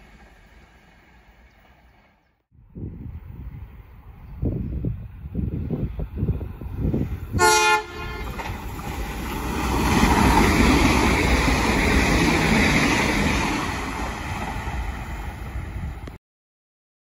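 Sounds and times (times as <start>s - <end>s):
diesel railcar passing: 0.0s - 16.2s.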